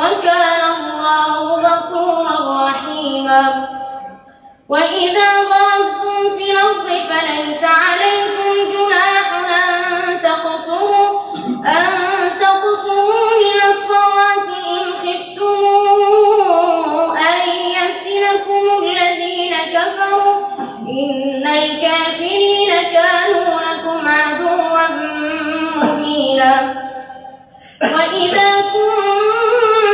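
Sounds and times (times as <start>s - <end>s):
boy chanting melodically: 0.0s - 27.0s, 27.6s - 29.9s.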